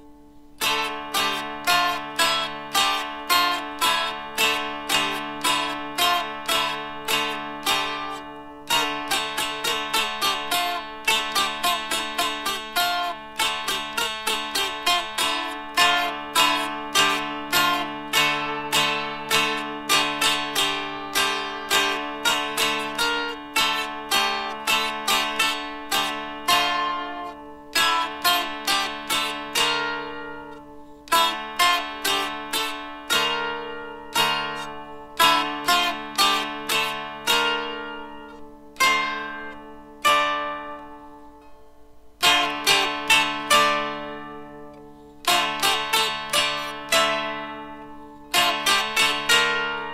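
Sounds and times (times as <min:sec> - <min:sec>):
dulcimer melody: 0:00.0 - 0:49.9.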